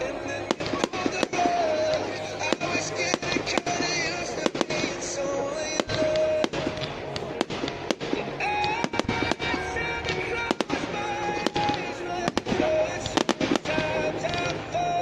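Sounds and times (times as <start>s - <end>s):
crowd voices: 0.0s - 15.0s
fireworks bangs and cracks: 0.0s - 15.0s
music: 0.0s - 15.0s.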